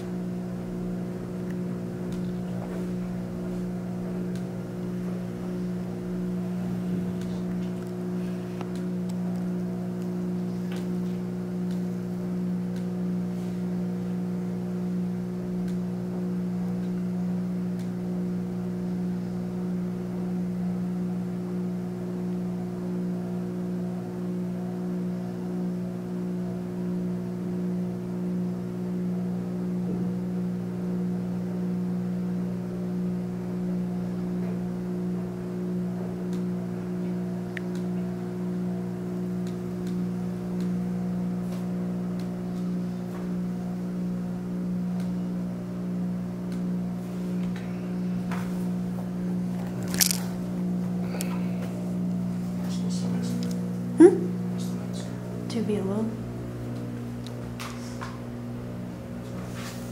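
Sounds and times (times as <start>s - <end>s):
steady low hum: 0.0s - 27.3s, 32.6s - 59.9s.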